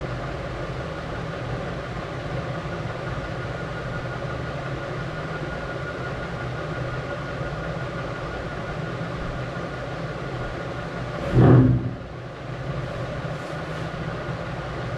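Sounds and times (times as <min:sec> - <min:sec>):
mechanical hum: 0:00.1 - 0:14.9.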